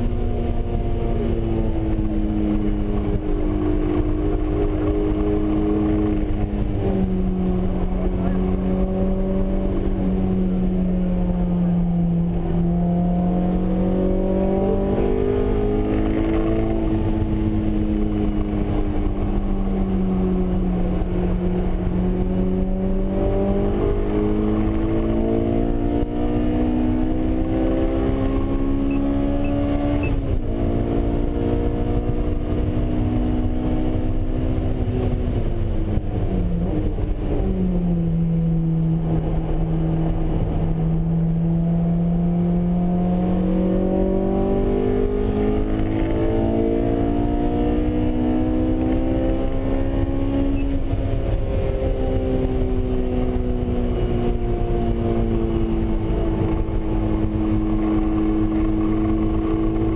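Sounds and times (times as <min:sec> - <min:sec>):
car engine revving: 0:00.0 - 0:59.9
road rumble: 0:00.0 - 0:59.9.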